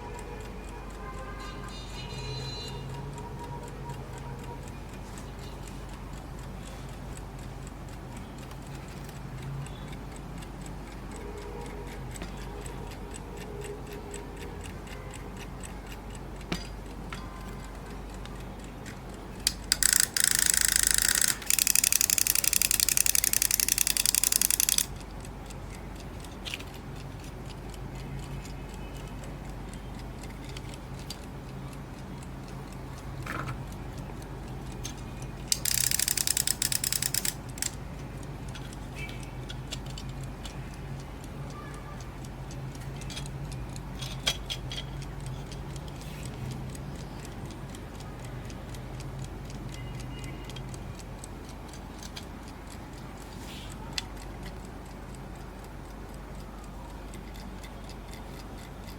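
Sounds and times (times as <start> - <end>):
mechanical alarm clock ticking: 0.0 - 58.9.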